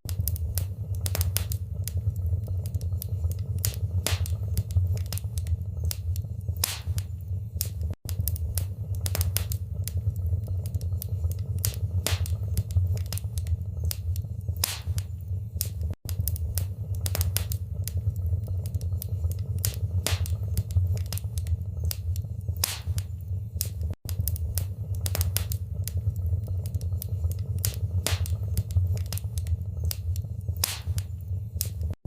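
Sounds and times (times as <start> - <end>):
wood fire crackling: 0.0 - 32.0
low rumble: 0.1 - 32.0.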